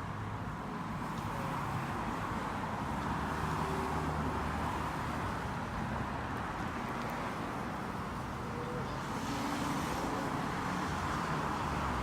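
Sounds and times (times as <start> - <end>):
car road noise rumble and hiss: 0.0 - 12.0.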